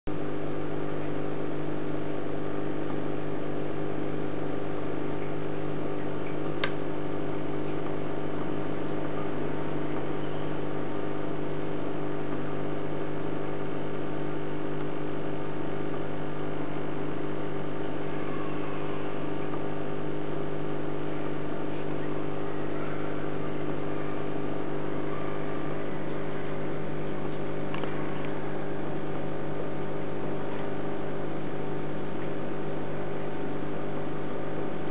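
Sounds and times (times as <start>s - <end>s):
aquarium filter pump humming: 0.1s - 34.9s.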